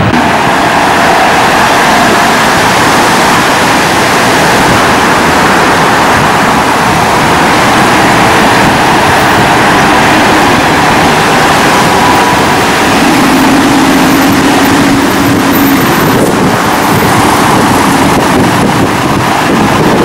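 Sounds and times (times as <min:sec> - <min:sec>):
traffic road noise hissing: 0:00.0 - 0:20.0.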